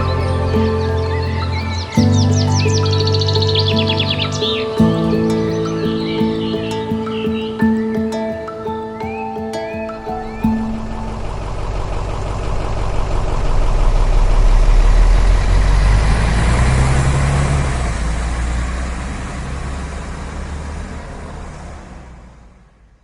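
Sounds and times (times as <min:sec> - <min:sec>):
bus engine passing by: 0:00.0 - 0:07.6, 0:10.1 - 0:22.8.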